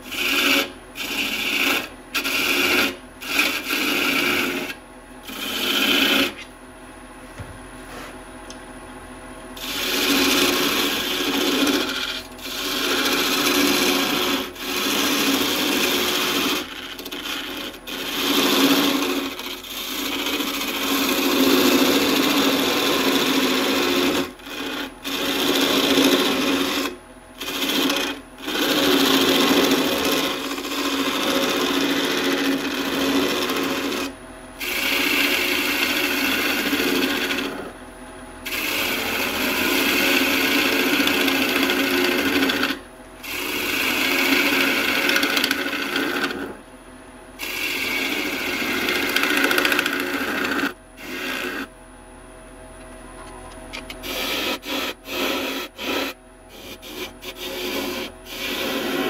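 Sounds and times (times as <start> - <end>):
lathe tool scraping wood: 0.0 - 6.5, 9.6 - 37.8, 38.4 - 46.6, 47.4 - 51.7, 53.9 - 59.0.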